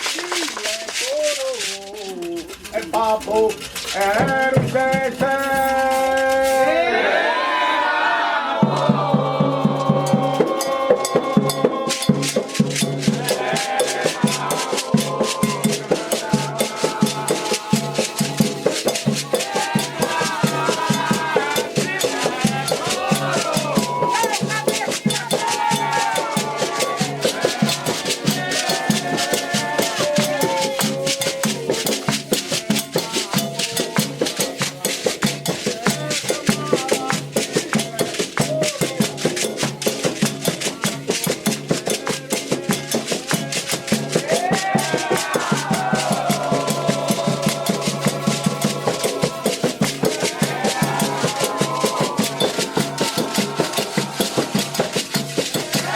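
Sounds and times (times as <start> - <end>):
drums: 0.0 - 6.7, 8.6 - 55.9
shaken rattle: 0.0 - 6.9, 8.7 - 55.9
voices singing a chant: 2.7 - 55.9.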